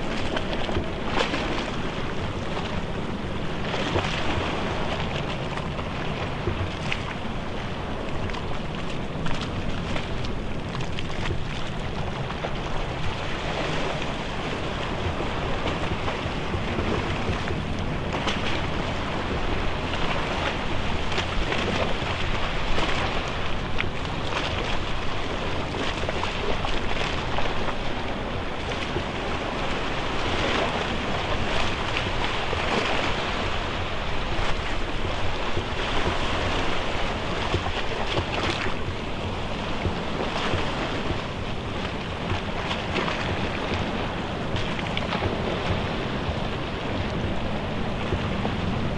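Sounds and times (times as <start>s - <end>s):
sea noise rushing: 0.0s - 48.9s
wind buffeting microphone: 0.0s - 48.9s.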